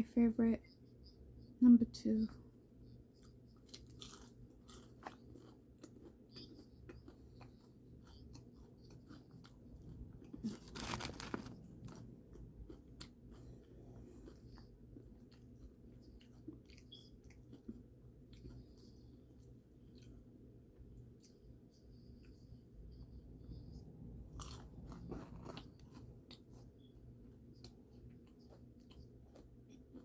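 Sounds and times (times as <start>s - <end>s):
person chewing crunchy food: 2.7s - 30.0s.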